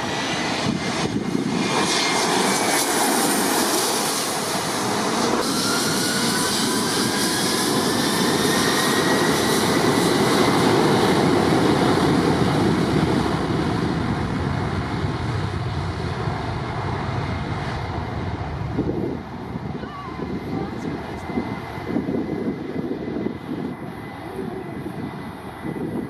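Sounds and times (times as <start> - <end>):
jet engines rushing by: 0.0 - 26.0.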